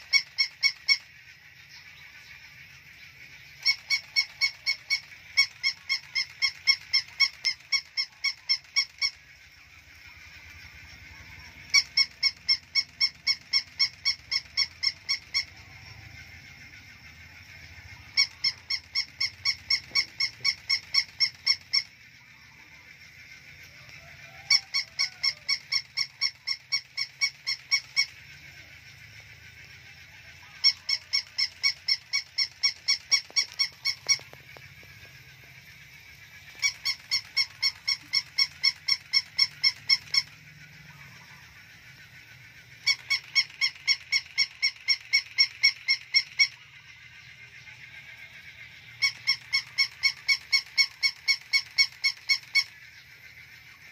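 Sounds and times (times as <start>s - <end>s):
toy puppy squeaky electronic yaps: 0.0s - 53.9s.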